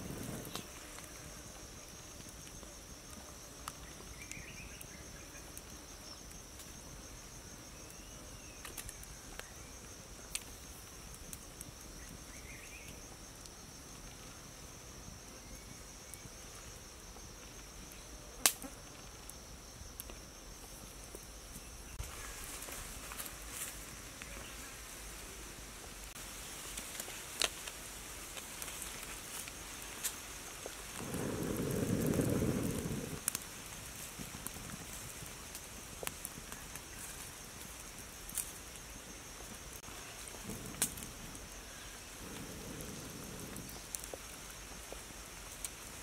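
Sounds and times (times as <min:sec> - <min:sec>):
insects droning trill: 0:00.0 - 0:46.0.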